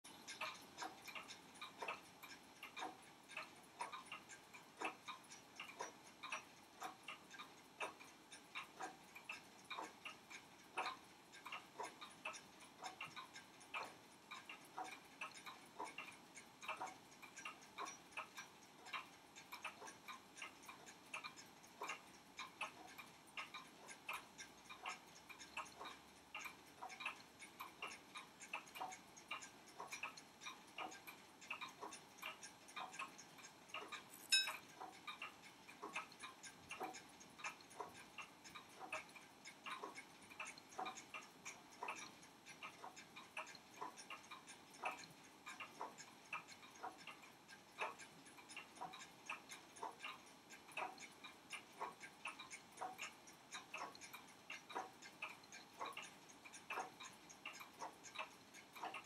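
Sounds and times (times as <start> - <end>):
pocket watch ticking: 0.1 - 59.0.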